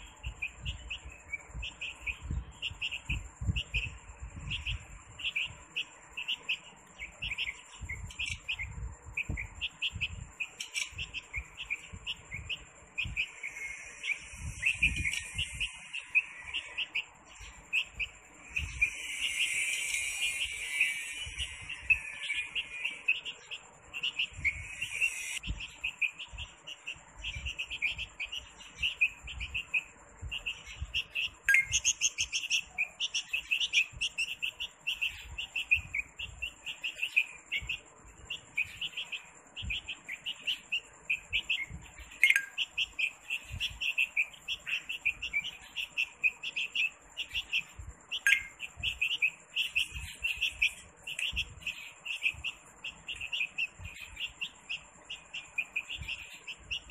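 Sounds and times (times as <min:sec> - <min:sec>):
baby bird chirping: 0:00.0 - 0:56.9.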